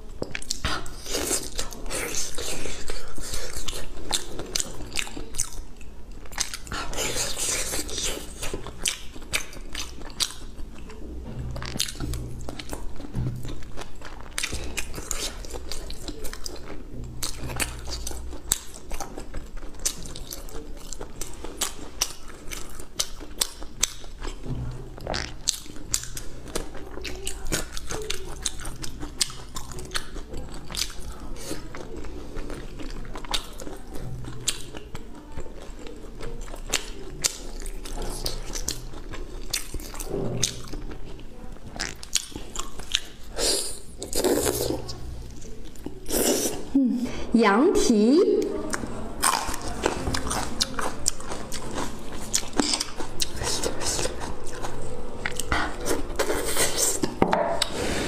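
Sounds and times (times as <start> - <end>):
wet chewing and biting: 0.2 - 46.7, 48.5 - 57.7.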